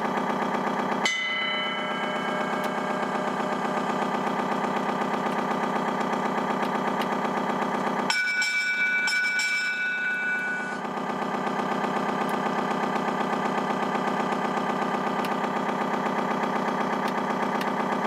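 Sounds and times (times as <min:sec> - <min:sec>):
simulated diesel engine idling: 0:00.0 - 0:18.0.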